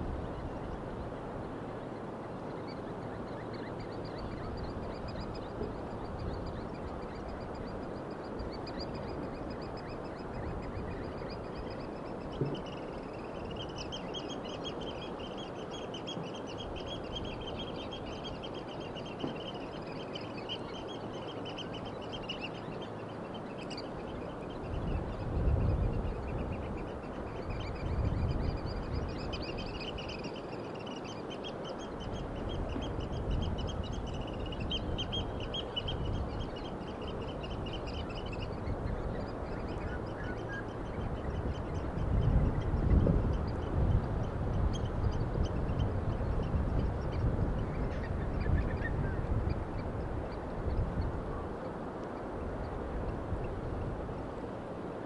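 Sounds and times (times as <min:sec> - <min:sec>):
seaside birds chattering: 0:00.0 - 0:53.8.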